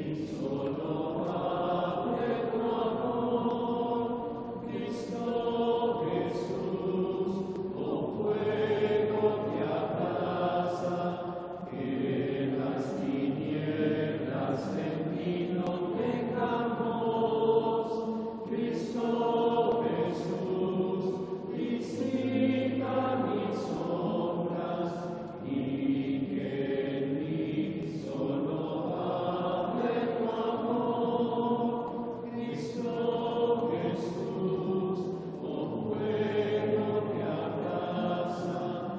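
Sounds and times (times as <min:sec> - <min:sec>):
congregation singing a chant: 0:00.0 - 0:38.9.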